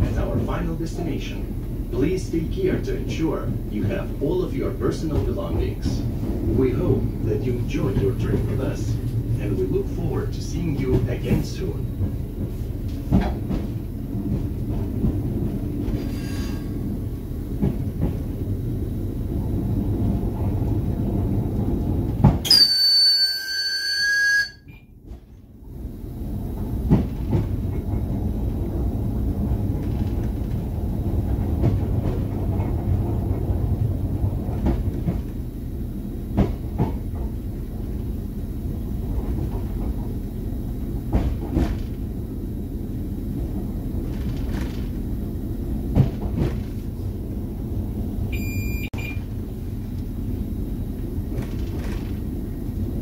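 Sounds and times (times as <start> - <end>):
diesel railcar rumbling: 0.0 - 53.0.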